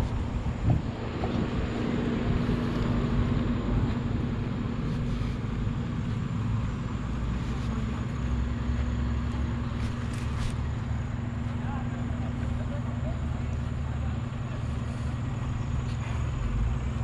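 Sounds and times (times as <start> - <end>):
cars and bus driving past: 0.0 - 17.0
constant hum: 0.0 - 17.0.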